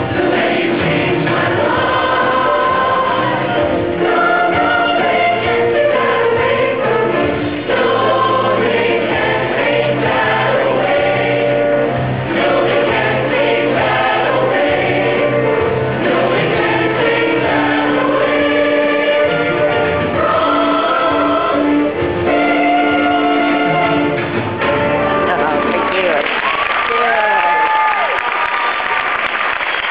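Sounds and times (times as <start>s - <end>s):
choir singing chords: 0.0s - 24.5s.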